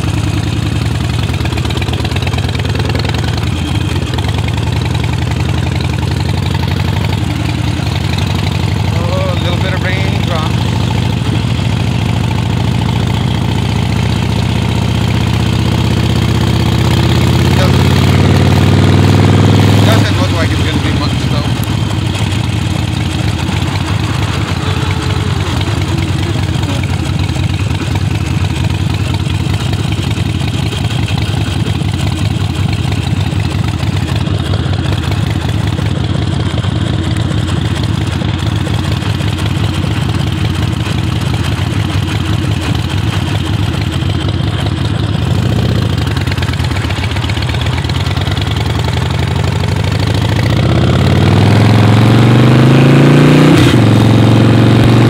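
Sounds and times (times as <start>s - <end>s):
motorcycle engine idling: 0.0s - 52.8s
motorcycle engine revving: 0.0s - 55.0s
motorcycle pulling away: 0.0s - 55.0s.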